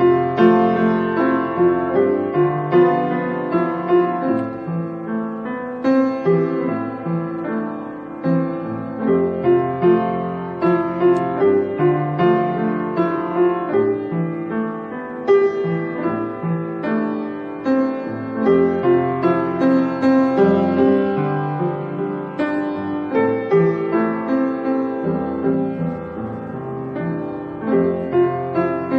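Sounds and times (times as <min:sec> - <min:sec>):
solo piano melody: 0:00.0 - 0:28.9.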